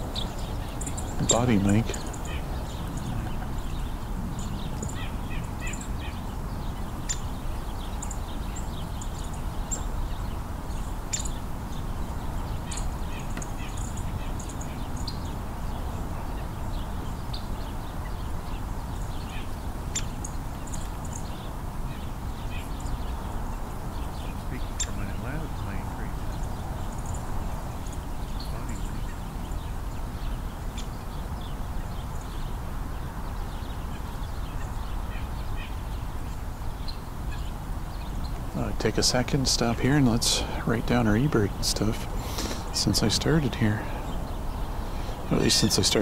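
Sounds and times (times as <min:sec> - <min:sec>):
songbirds high call notes: 0:00.0 - 0:46.0.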